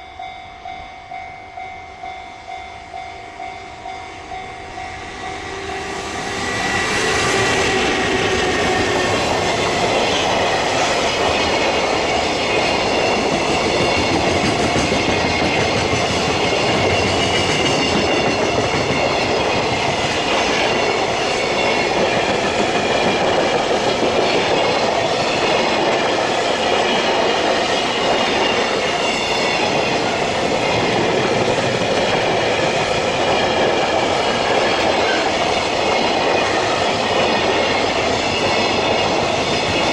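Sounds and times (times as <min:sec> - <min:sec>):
freight train wheels clattering: 0:03.7 - 0:39.9.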